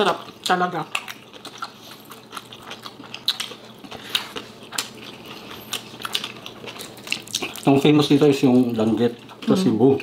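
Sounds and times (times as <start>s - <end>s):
chewing crispy food: 0.0s - 10.0s.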